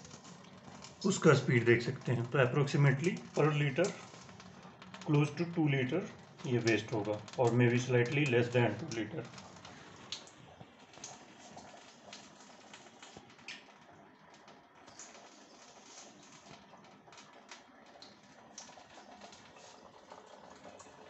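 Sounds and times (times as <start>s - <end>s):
light clicks and ticks: 0.1s - 19.8s.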